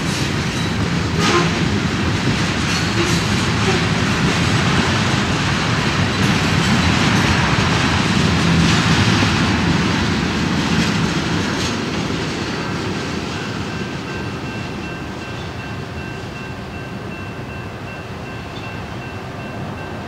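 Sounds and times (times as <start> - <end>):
freight train wheels rolling on rails: 0.0 - 20.0.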